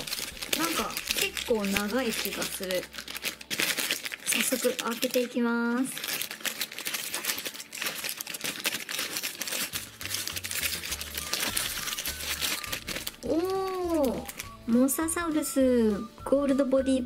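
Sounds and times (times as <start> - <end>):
plastic packet crinkling and tearing: 0.0 - 14.8
wrapped toy rustling: 0.0 - 15.5.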